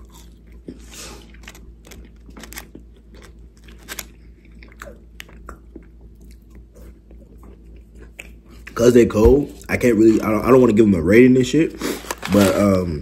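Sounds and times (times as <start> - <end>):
chewing crunchy fries: 0.0 - 10.8, 11.7 - 13.0.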